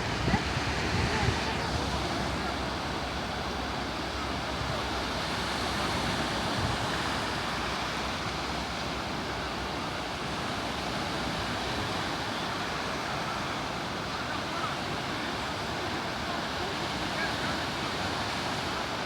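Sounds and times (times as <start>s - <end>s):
sea surf washing onto shore: 0.0s - 19.0s.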